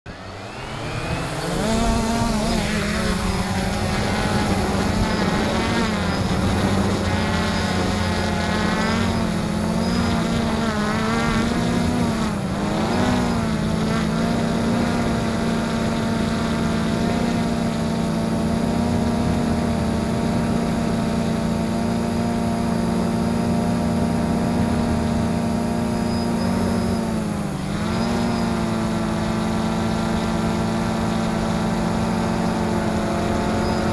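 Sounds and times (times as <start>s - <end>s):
drone propellers buzzing: 0.1s - 33.9s.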